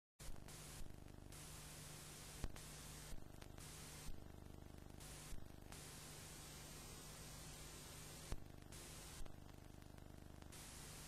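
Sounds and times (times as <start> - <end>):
low mains hum: 0.2 - 11.0
steady hiss: 0.2 - 11.0.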